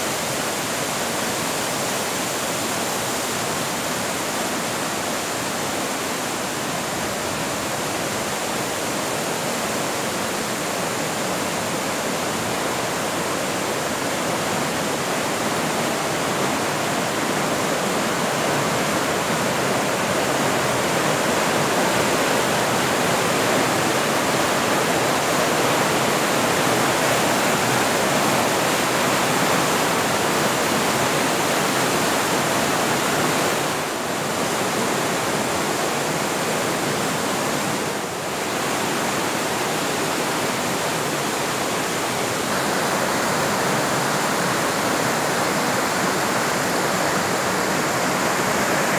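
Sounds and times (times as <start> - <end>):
river rapids rushing: 0.0 - 48.9.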